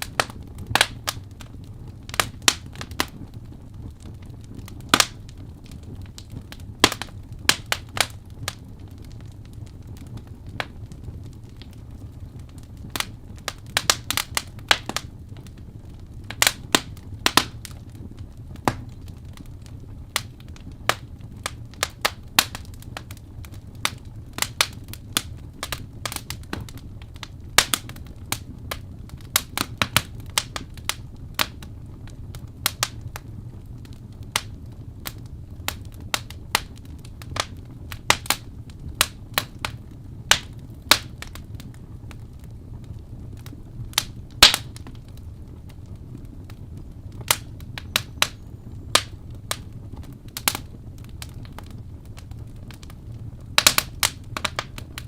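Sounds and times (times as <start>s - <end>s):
low rumble of burning logs: 0.0s - 55.0s
wood fire crackling: 0.0s - 55.0s.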